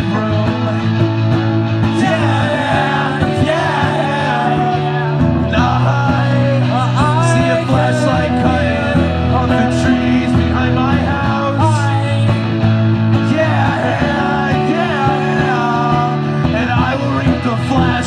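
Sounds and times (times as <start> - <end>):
electric guitar melody bending: 0.0 - 18.0
rock band playing: 0.0 - 18.0.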